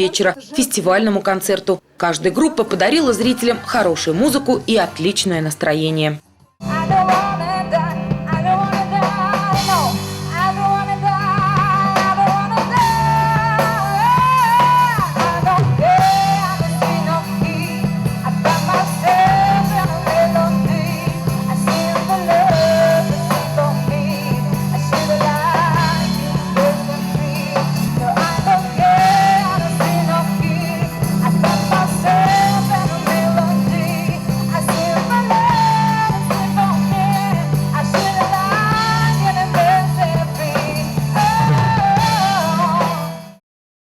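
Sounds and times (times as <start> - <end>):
person singing: 6.6 - 43.4
rock band playing: 6.6 - 43.4.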